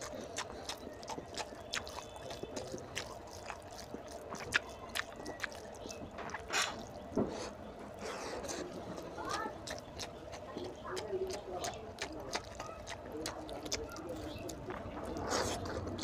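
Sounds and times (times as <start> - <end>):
hand squelching curry and rice: 0.0 - 16.0.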